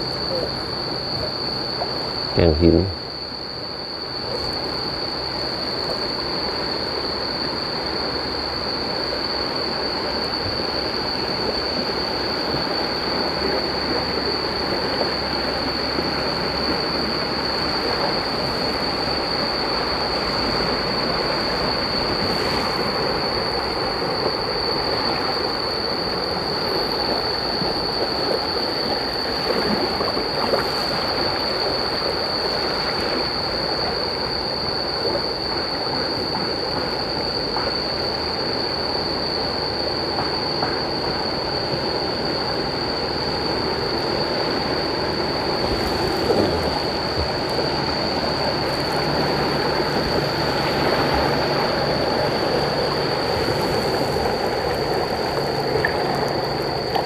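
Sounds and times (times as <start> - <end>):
high-pitched whine: 0.0 - 57.0
river rushing through rapids: 4.2 - 57.0.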